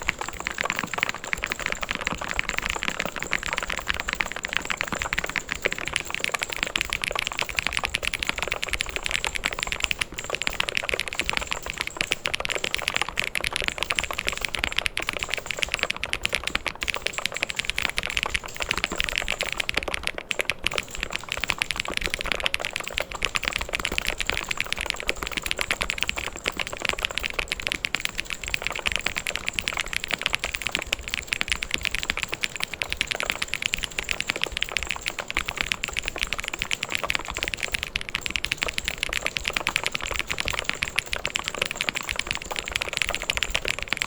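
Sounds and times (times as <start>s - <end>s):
fast typing on mechanical keyboard: 0.0s - 44.0s.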